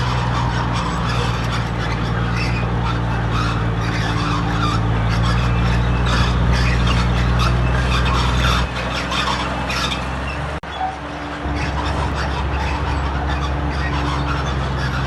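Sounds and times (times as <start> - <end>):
bulldozer diesel engine running: 0.0 - 15.0
steel tracks squealing and scraping: 0.0 - 15.0.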